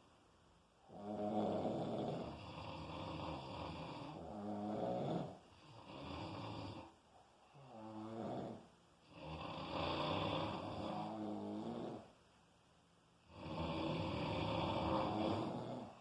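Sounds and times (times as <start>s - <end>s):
heavy pitched snoring: 0.9s - 12.1s, 13.2s - 16.0s.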